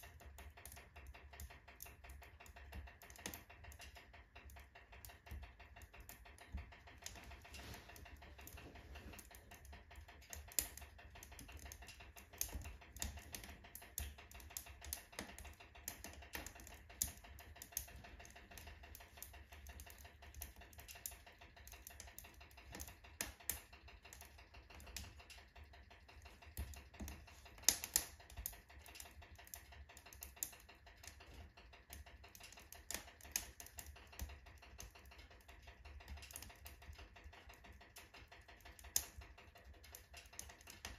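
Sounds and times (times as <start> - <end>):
firewood crackling and popping: 0.0 - 40.9
low rumble of fire: 0.0 - 40.9.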